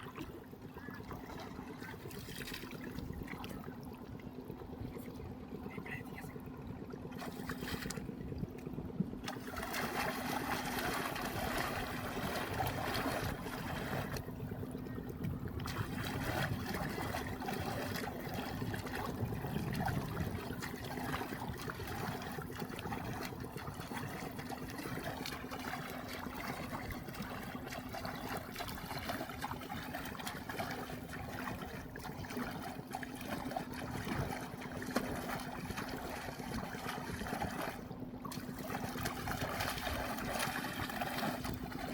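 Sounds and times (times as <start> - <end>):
low hum: 0.0 - 41.9
river water trickling: 0.0 - 41.9.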